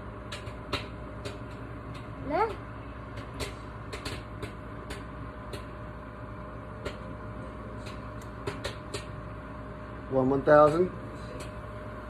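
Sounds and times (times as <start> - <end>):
microwave oven hum: 0.0 - 12.0
popcorn popping: 0.0 - 12.0.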